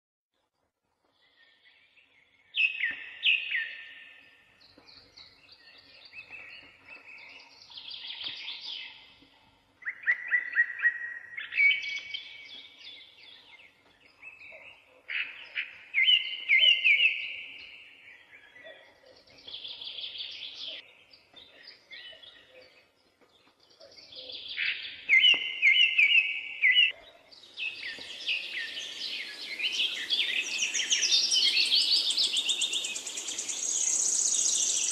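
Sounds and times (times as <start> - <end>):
songbirds singing: 1.0 - 34.9.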